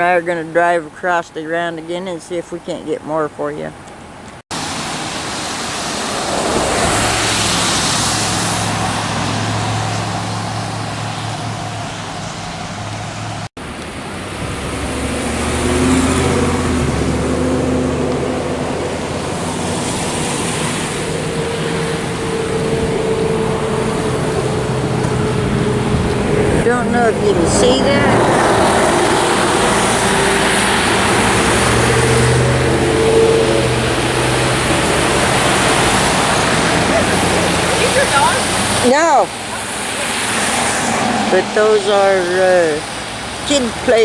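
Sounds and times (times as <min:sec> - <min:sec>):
tyre and road rush: 0:00.0 - 0:44.0
car engine hum: 0:06.2 - 0:44.0.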